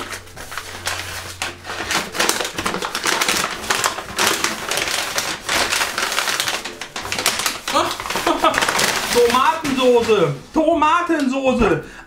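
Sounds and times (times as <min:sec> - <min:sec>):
paper crinkling and rustling: 0:00.0 - 0:11.3.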